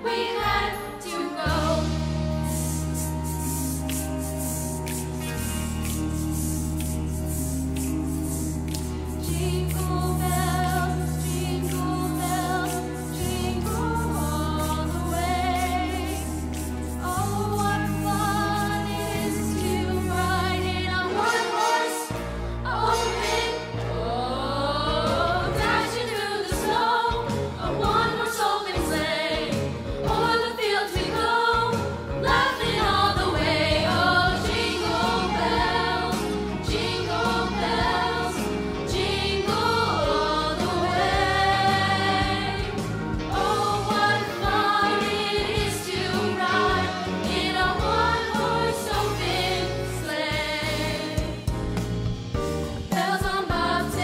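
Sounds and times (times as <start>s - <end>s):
choir singing in harmony: 0.0s - 5.0s, 7.3s - 51.6s, 52.6s - 54.0s
bass accompaniment: 1.5s - 21.4s, 22.1s - 54.0s.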